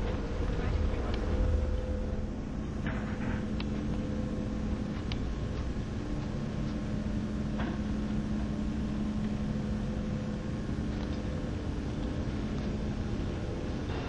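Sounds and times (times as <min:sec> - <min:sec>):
ferry engines droning: 0:00.0 - 0:14.0.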